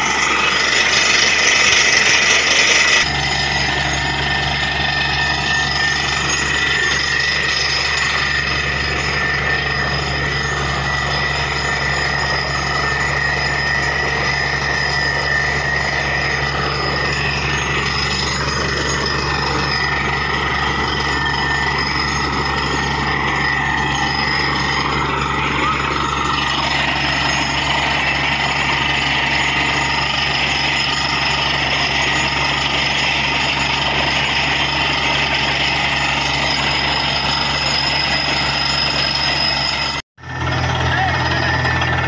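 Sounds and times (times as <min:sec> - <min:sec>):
drilling rig engine drone: 0:00.0 - 0:42.0
high-pitched whines: 0:00.0 - 0:42.0.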